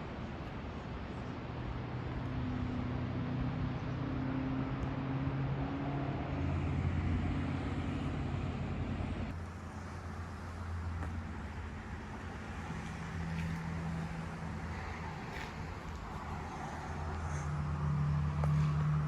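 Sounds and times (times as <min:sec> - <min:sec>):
vehicle engine humming: 0:00.6 - 0:19.0.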